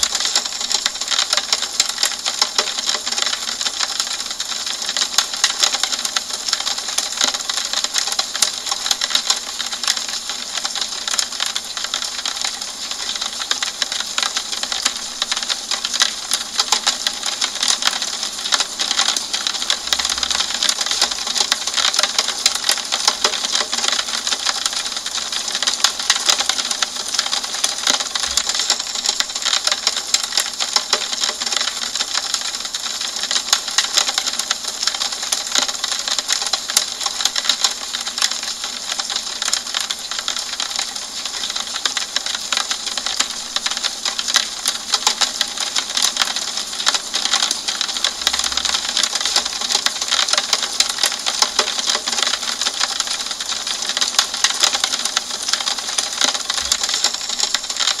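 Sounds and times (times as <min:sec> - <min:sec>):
rain on a window pane: 0:00.0 - 0:58.0.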